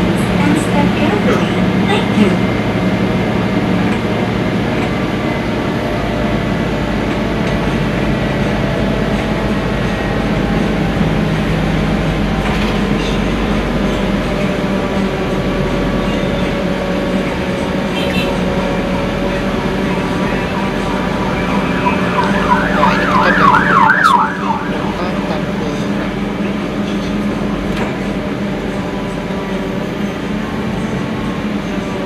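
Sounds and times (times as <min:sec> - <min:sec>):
bus engine drone: 0:00.0 - 0:32.0
road noise: 0:00.0 - 0:32.0.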